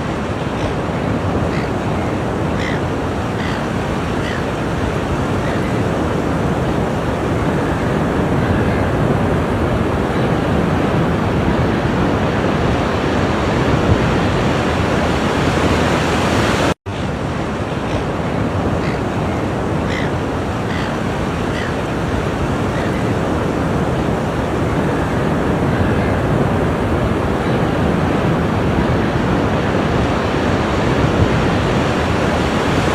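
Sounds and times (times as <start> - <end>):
ocean surf washing on shore: 0.0 - 32.9.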